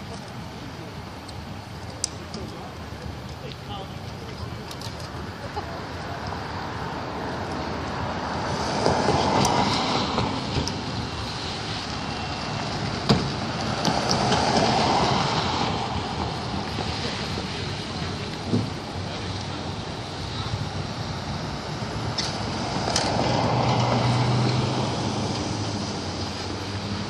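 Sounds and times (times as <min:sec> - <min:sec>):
sharp crackles: 0:00.0 - 0:26.8
distant rocket launch roar: 0:00.0 - 0:27.0.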